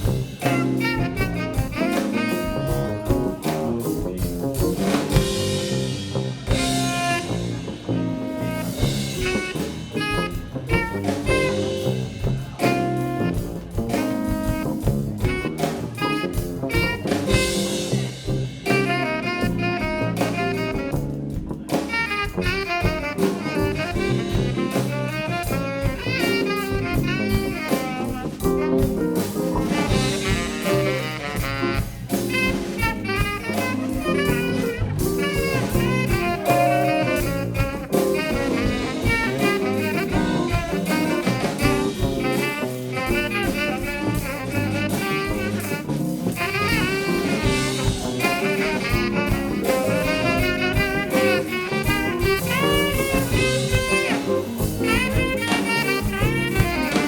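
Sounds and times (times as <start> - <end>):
live band playing jazz: 0.0 - 57.0
steady drum kit beat: 0.0 - 57.0.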